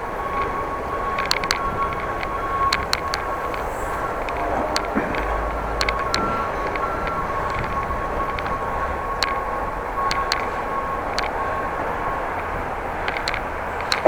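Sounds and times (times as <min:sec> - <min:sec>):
bicycle clicks and rattles: 0:00.0 - 0:14.0
wind and tyre rush: 0:00.0 - 0:14.0.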